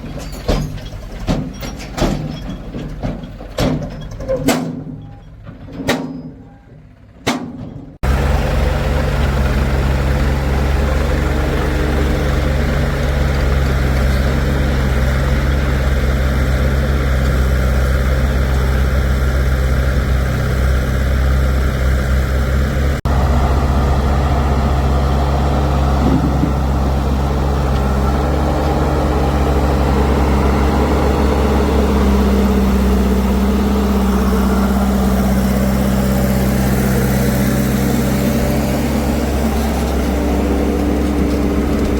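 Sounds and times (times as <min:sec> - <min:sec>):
heavy diesel engine running: 0:06.4 - 0:41.9.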